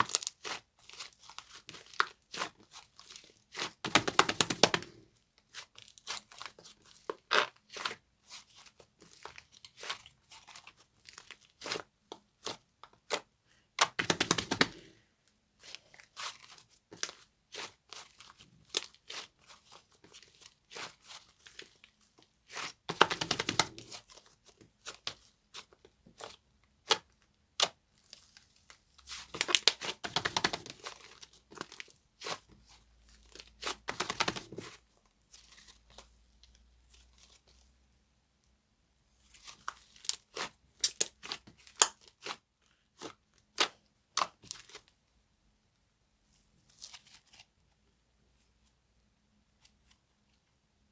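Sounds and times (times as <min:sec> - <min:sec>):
hard slime crackling: 0:00.0 - 0:37.6, 0:39.2 - 0:44.9.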